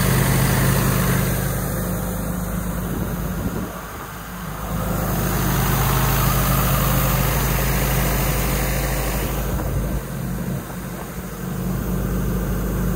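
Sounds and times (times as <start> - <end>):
diesel air compressor idling: 0.0 - 12.9.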